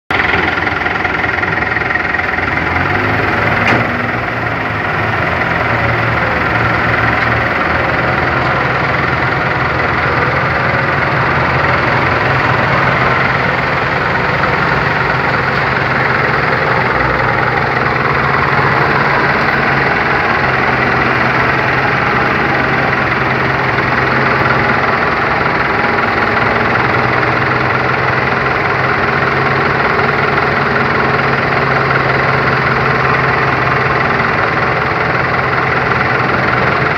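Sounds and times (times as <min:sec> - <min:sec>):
diesel tractor engines under load: 0:00.1 - 0:36.9.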